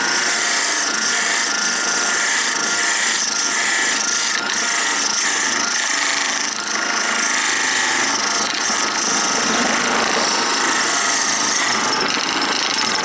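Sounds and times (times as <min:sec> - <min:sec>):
faint motor whine: 0:00.0 - 0:13.0
lathe tool scraping wood: 0:00.0 - 0:13.0.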